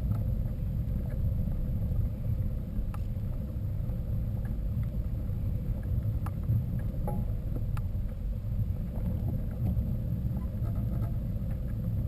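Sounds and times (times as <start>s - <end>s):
uneven low rumble: 0.0s - 12.0s.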